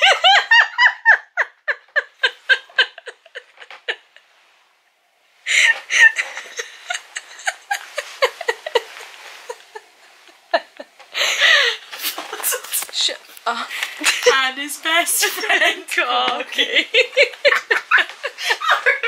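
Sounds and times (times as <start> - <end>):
woman laughing hard: 0.0 - 4.2, 5.5 - 12.9, 15.1 - 19.0.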